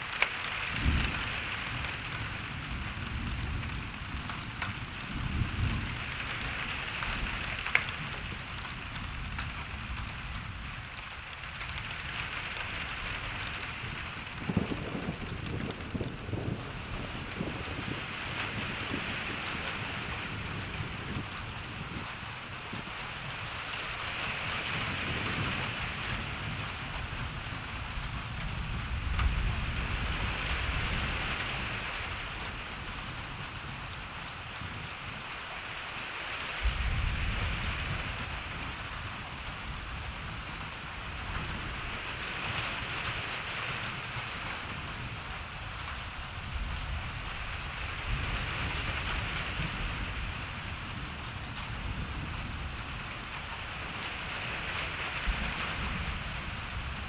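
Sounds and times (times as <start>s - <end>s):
thunder rumbling: 0.0s - 35.3s, 36.5s - 57.0s
steady rain falling: 0.0s - 57.0s.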